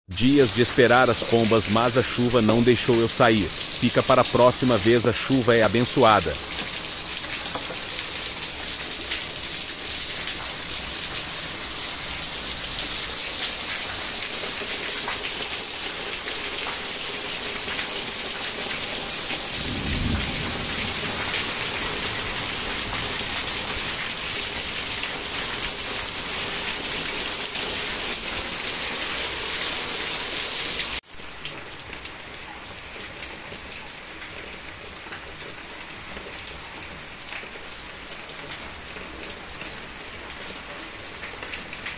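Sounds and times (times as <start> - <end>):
rain pattering on roofs: 0.1 - 41.9.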